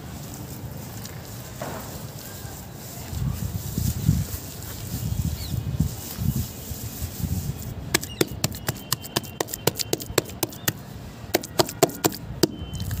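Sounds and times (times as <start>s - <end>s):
hands squishing wet cement: 2.1s - 13.0s.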